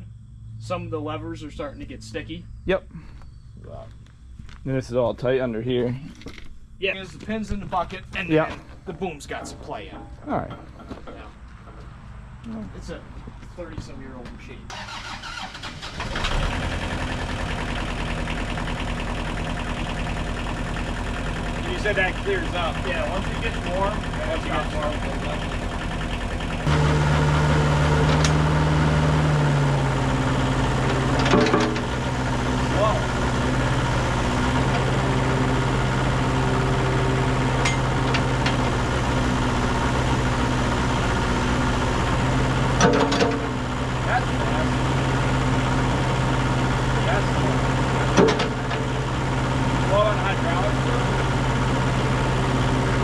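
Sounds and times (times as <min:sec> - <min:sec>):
excavator diesel engine idling: 0:06.8 - 0:53.0.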